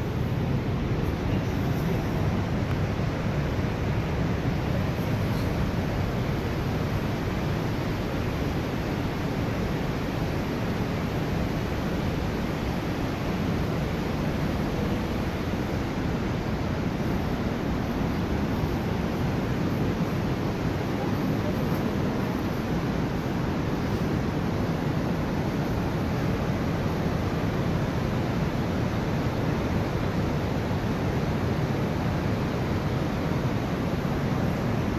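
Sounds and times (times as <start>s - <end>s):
underground waterfall rushing: 0.0s - 34.9s.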